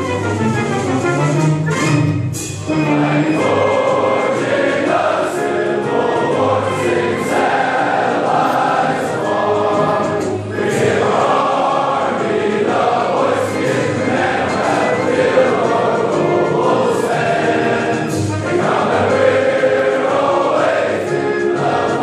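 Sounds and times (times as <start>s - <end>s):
many voices singing to music: 2.6s - 22.0s.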